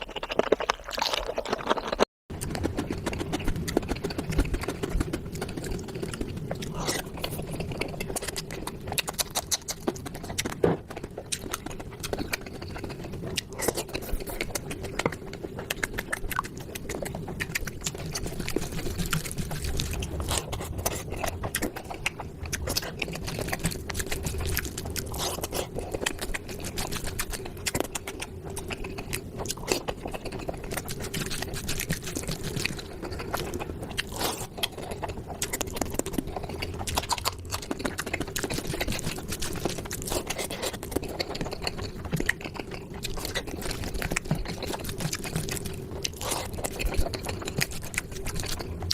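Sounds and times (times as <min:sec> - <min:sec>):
wet chewing and mouth clicks: 0:00.0 - 0:48.9.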